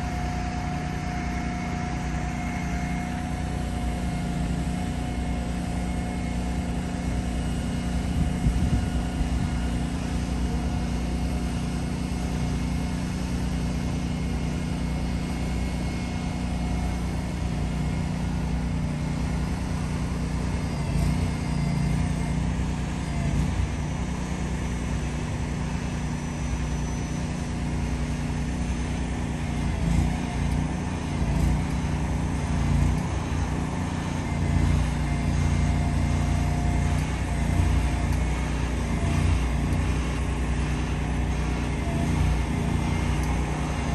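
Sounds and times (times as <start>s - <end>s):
diesel truck engines droning: 0.0s - 43.9s.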